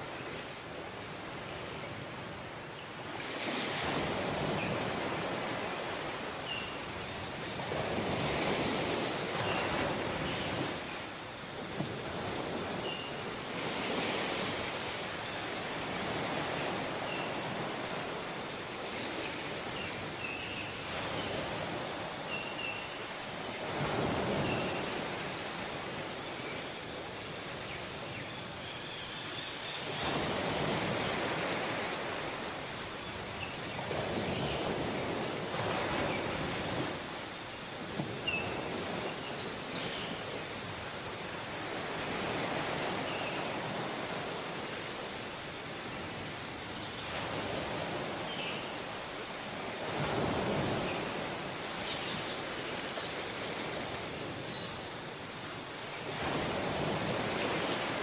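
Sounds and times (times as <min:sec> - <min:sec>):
waves washing onto beach: 0:00.0 - 0:28.6, 0:29.2 - 0:58.0.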